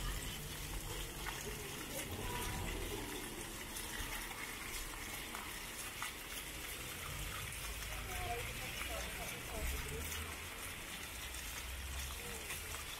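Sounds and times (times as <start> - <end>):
fountain water splashing: 0.0 - 12.9.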